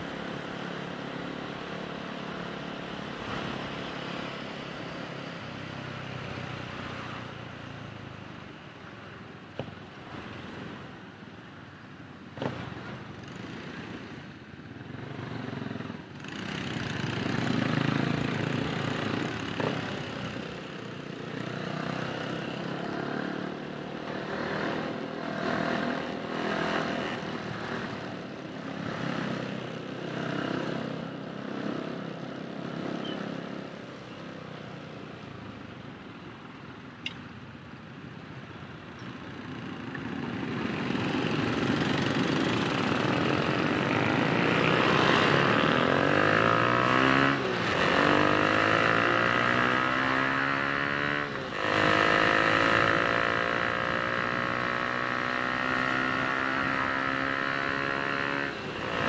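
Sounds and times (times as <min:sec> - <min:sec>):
road and wind noise: 0:00.0 - 0:59.0.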